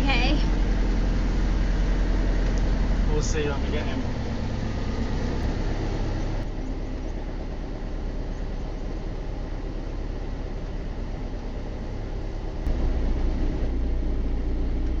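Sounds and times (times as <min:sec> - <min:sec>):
boat engine low rumble: 0:00.0 - 0:15.0.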